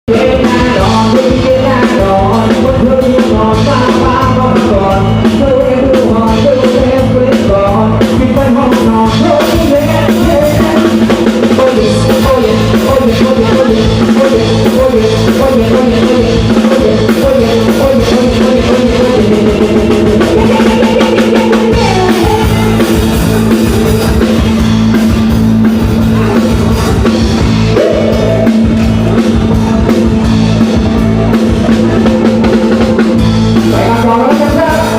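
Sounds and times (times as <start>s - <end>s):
drum kit and bass beat: 0.1s - 34.9s.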